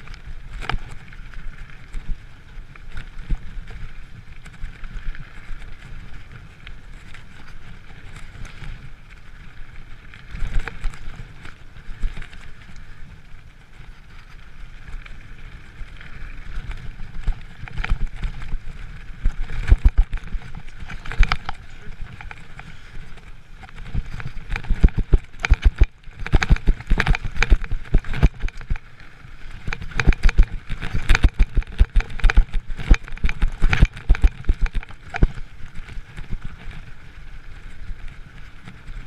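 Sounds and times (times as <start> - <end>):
bike knocking and rattling: 0.0 - 39.0
bike tyres rumbling on dirt: 0.0 - 39.0.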